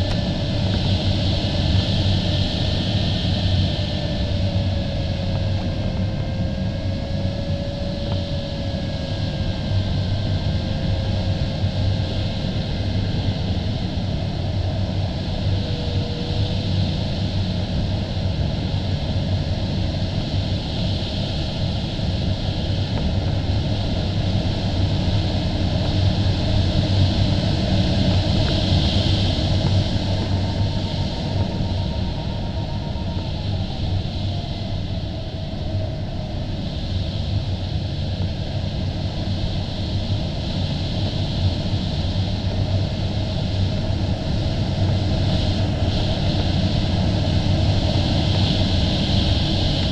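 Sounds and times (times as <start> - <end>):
rushing airflow rumble and hiss: 0.0 - 49.9.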